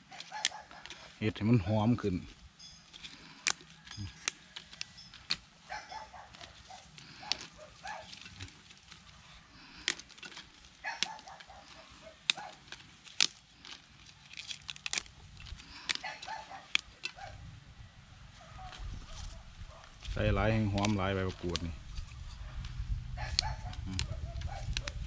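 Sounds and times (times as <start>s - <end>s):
leaves snapping and tearing: 0.0s - 1.2s, 3.0s - 17.4s, 18.6s - 25.0s.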